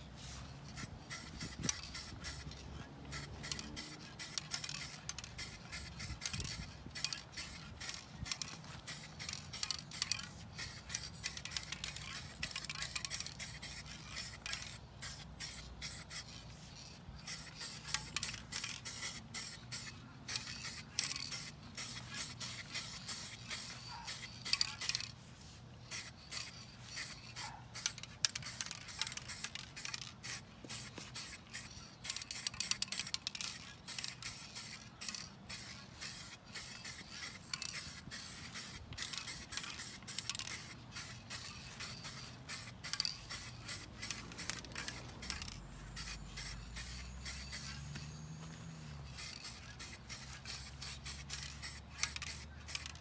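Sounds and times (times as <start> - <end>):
spray paint hissing in bursts: 0.0 - 53.0.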